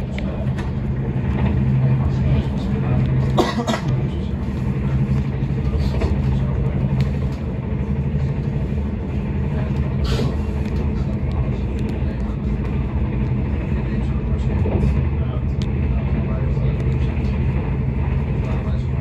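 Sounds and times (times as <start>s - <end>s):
train rumbling on tracks: 0.0s - 19.0s.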